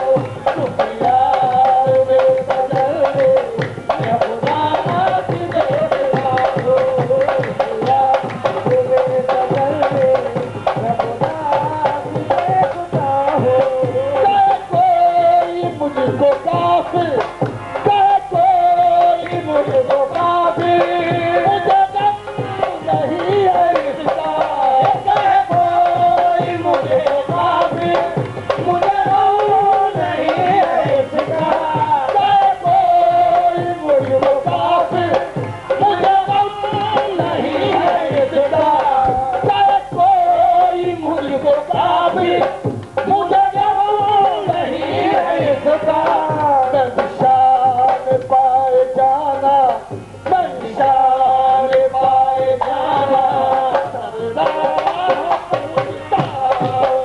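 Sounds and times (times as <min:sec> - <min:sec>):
harmonium: 0:00.0 - 0:57.0
person singing: 0:00.0 - 0:57.0
tabla drumming: 0:00.0 - 0:57.0.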